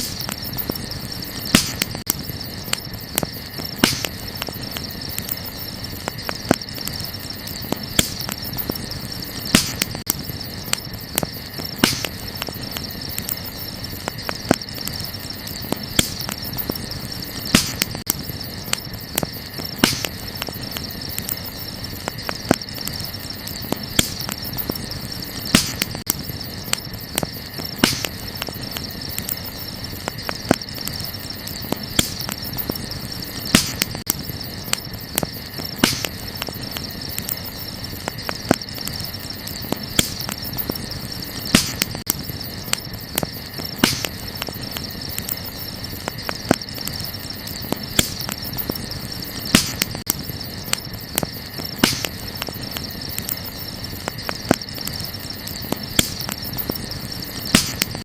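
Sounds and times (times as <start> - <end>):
crickets chirring: 0.0 - 58.0
wood fire crackling and popping: 0.0 - 58.0.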